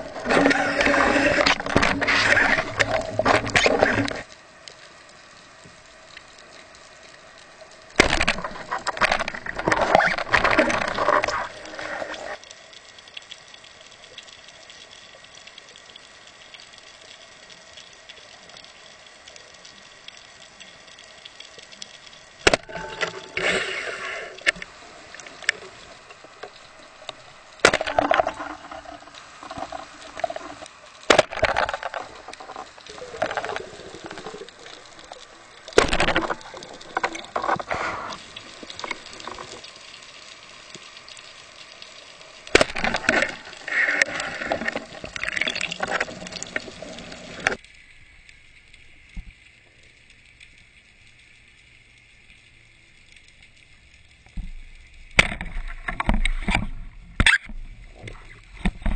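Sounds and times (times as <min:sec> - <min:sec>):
steady underwater hiss: 0:00.0 - 0:58.9.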